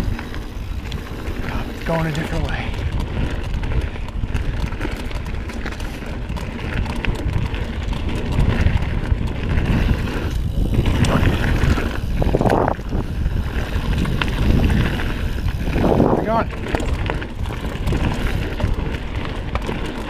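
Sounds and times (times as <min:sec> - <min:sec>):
bike clicks and rattles: 0:00.0 - 0:20.0
tyres rumbling on dirt: 0:00.0 - 0:20.0
wind buffeting microphone: 0:00.0 - 0:20.0.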